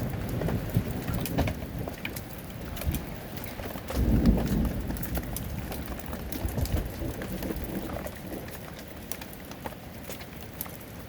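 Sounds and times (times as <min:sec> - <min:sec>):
hail and heavy rain: 0:00.0 - 0:11.0
hailstones clicking: 0:00.0 - 0:11.0.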